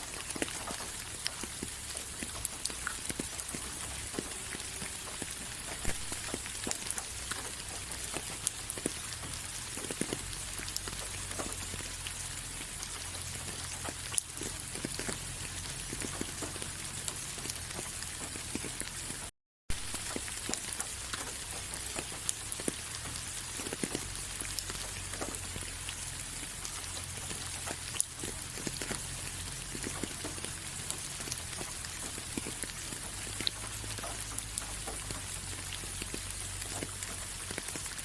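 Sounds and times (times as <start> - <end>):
steady rain: 0.0 - 38.0.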